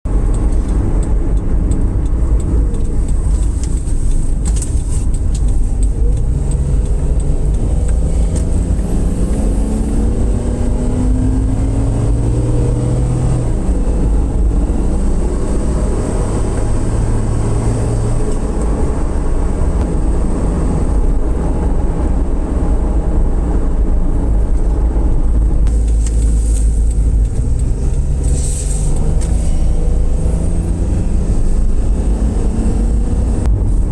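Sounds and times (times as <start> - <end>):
road rumble: 0.0 - 33.9
vehicle engine hum: 0.0 - 33.9.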